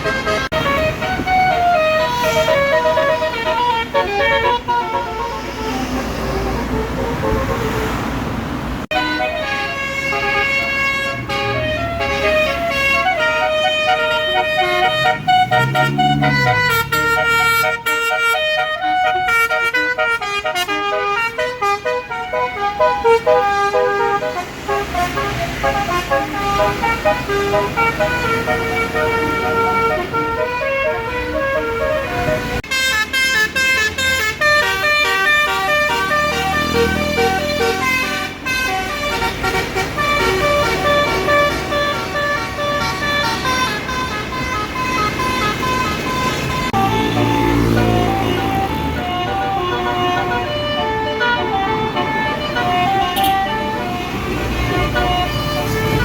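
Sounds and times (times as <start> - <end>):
bus air horn melody: 0.0 - 8.1, 8.9 - 56.0.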